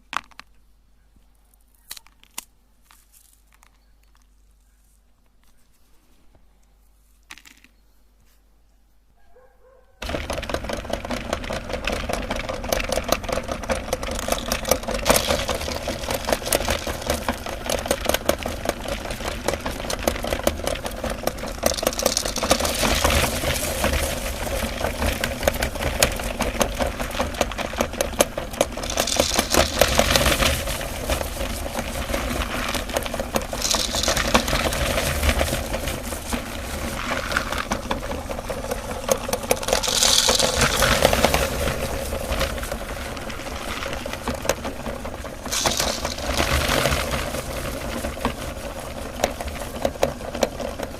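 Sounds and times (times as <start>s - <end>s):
candy crackling in grinder: 10.0s - 50.9s
meat grinder motor hum: 10.0s - 50.9s.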